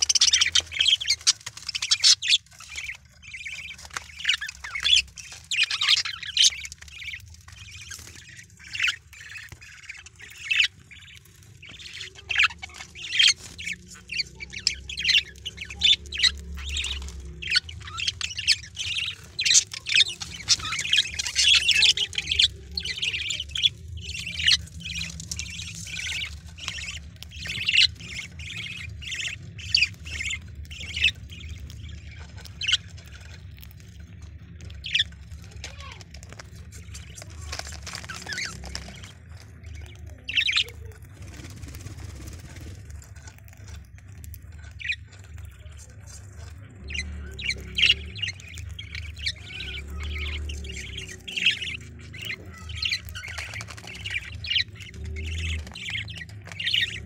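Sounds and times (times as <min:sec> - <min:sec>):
budgerigars squawking and chirping: 0:00.0 - 0:57.0.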